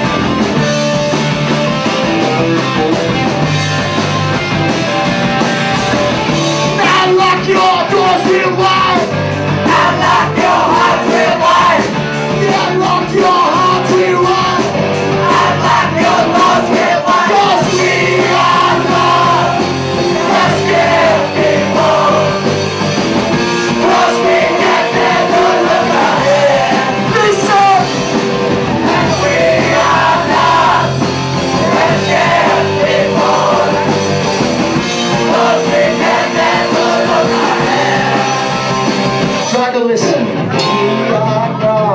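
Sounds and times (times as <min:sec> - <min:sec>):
bass notes: 0:00.0 - 0:41.9
live rock band playing: 0:00.0 - 0:41.9
people singing: 0:06.7 - 0:41.9.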